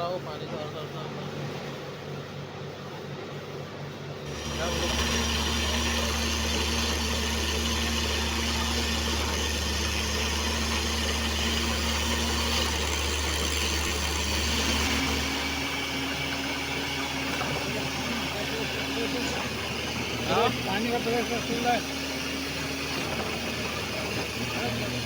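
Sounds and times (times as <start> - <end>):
drilling rig engine droning: 3.8 - 25.0.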